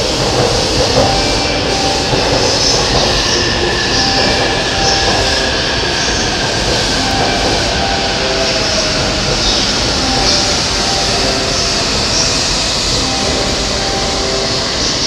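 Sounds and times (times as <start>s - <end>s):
electric train rail rumble: 0.0s - 15.0s
faint train whines: 0.0s - 15.0s.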